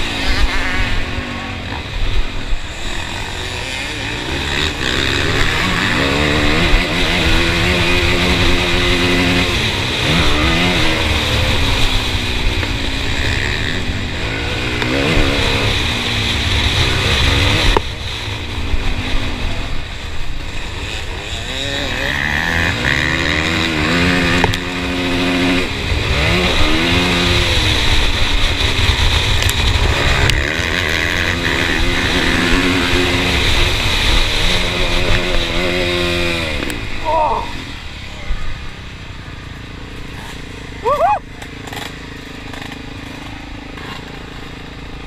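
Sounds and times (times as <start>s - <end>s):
motocross engine revving: 0.0s - 45.0s.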